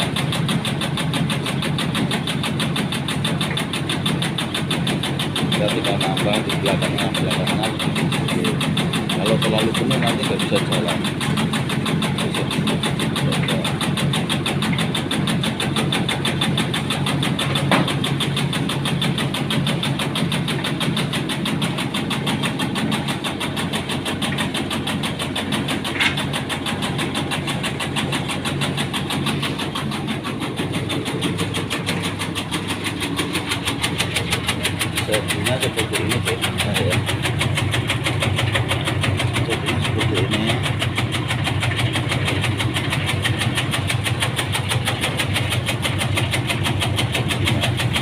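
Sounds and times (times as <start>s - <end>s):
tobacco cutting machine running: 0.0s - 48.0s.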